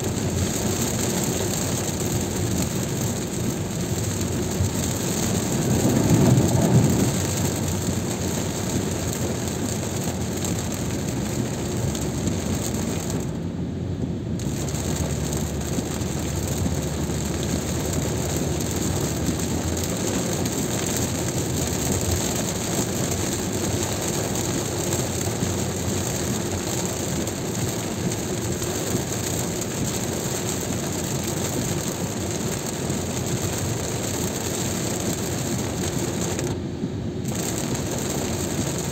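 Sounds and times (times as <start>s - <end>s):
heavy rain: 0.0s - 38.9s
tyre noise on wet road: 0.0s - 38.9s.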